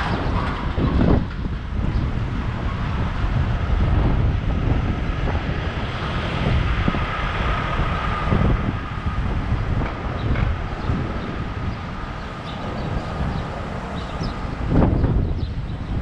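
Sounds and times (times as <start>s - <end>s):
low road rumble: 0.0s - 16.0s
wind buffeting microphone: 0.0s - 16.0s.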